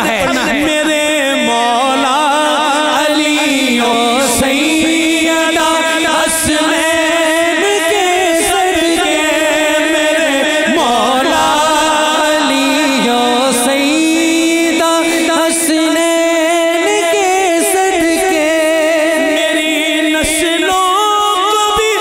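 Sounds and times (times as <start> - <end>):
man singing through pa system: 0.0 - 22.0.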